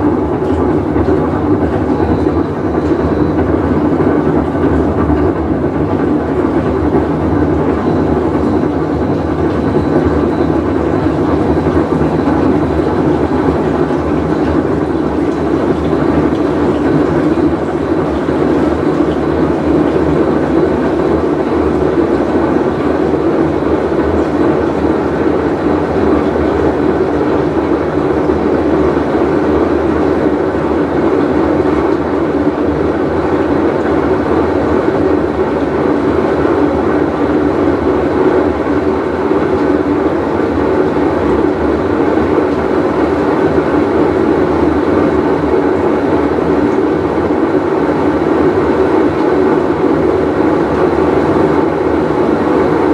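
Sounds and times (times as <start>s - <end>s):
washing machine rumbling drone: 0.0s - 52.9s.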